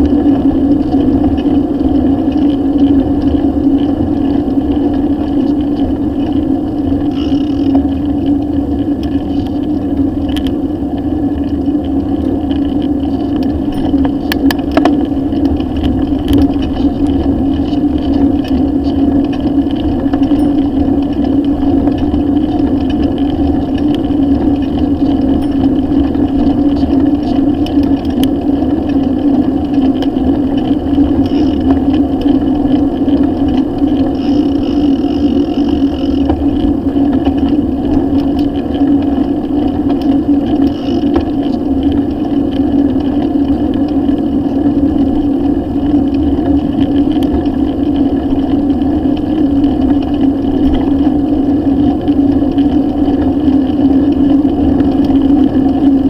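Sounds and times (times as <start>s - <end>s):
constant hum: 0.0s - 56.0s
wind on microphone: 0.0s - 56.0s.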